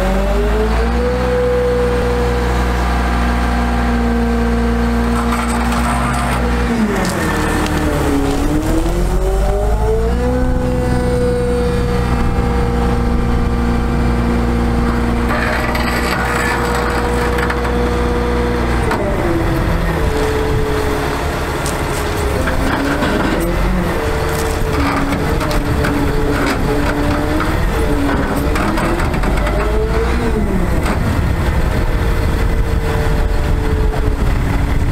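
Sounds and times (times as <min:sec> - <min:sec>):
truck diesel engine revving: 0:00.0 - 0:34.9.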